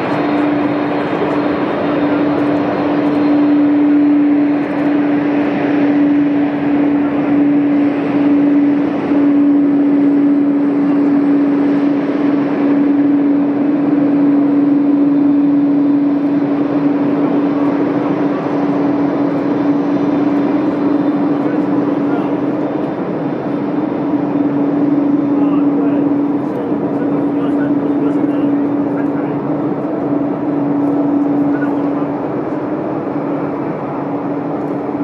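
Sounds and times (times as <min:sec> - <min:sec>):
jet engines taxiing: 0:00.0 - 0:35.0
low hum: 0:00.0 - 0:35.0.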